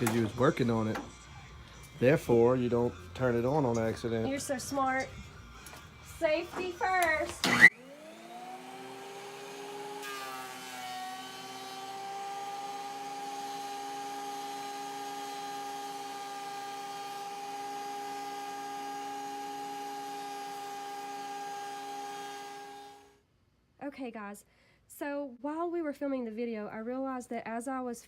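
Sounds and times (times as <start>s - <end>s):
thickness planer whining: 0.0s - 23.2s.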